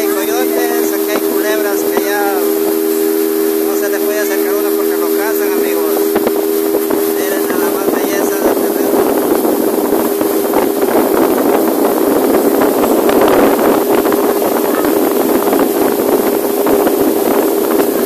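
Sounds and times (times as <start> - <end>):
motorboat engine running: 0.0 - 18.0
water rushing: 0.0 - 18.0.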